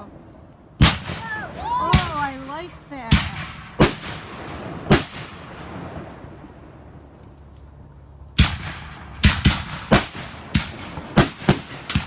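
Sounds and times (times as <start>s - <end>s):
fireworks sharp bangs: 0.0s - 7.2s, 8.4s - 12.0s
fireworks rumble and crackle: 0.0s - 12.0s.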